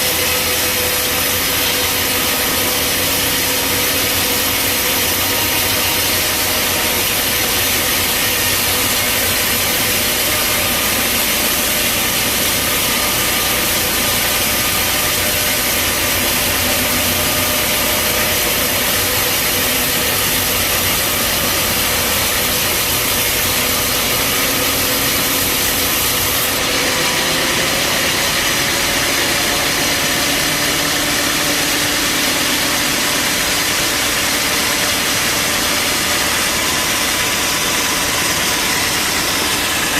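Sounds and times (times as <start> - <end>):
bandsaw sawmill running: 0.0 - 39.9.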